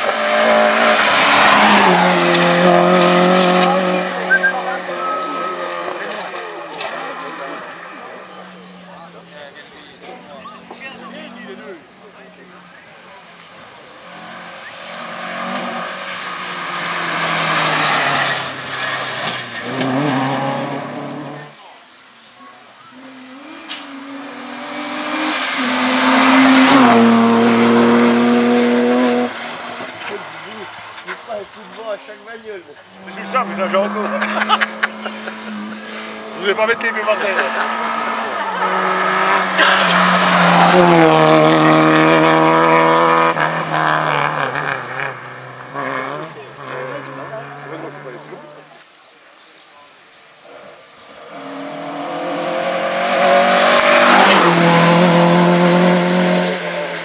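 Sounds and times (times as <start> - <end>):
rally car engine at high revs: 0.0 - 9.7, 13.9 - 21.6, 23.0 - 31.8, 32.8 - 48.7, 50.5 - 57.0.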